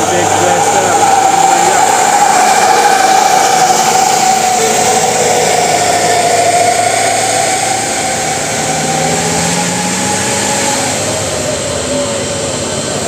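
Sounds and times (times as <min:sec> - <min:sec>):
high whine: 0:00.0 - 0:13.0
truck engines labouring uphill: 0:00.0 - 0:13.0.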